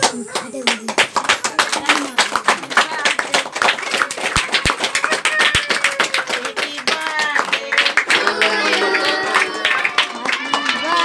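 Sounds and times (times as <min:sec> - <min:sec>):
crowd clapping: 0:00.0 - 0:11.0.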